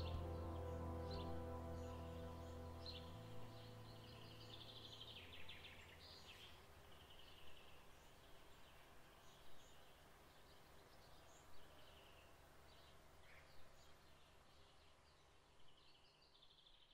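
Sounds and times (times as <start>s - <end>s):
low steady hum: 0.0s - 15.9s
faint birdsong chirps and trills: 0.0s - 16.9s.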